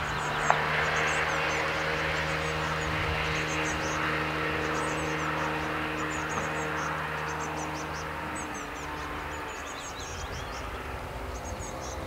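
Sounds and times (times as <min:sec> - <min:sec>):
nestling birds begging chirps: 0:00.0 - 0:12.0
steady mechanical drone: 0:00.0 - 0:12.0.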